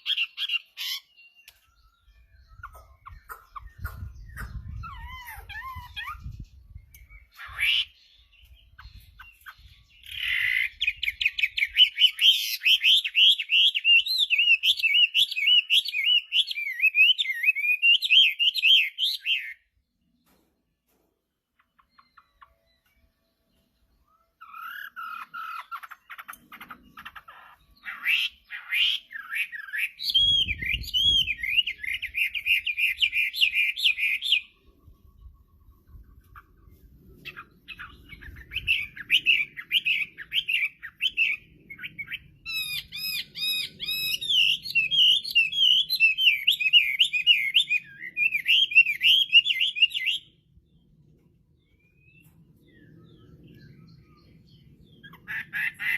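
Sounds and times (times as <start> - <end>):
bird singing whistled notes: 0.0 - 20.4, 21.6 - 50.9, 51.6 - 55.8.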